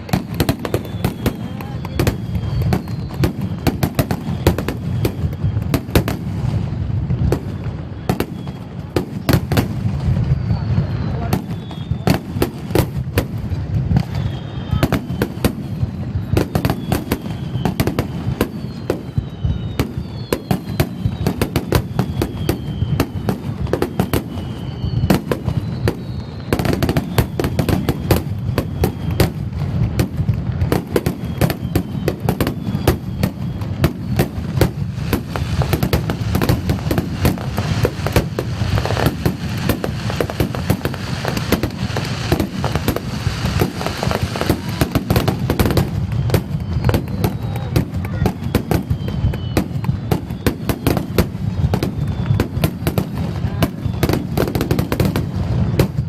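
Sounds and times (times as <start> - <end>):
falling firework whistles: 0.0 - 56.0
firework shell bursts and crackling: 0.0 - 56.0.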